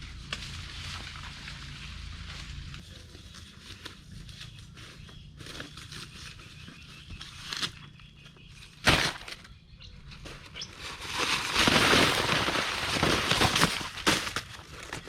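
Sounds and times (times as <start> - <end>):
dry corn plants crackling and rustling: 0.0 - 15.0.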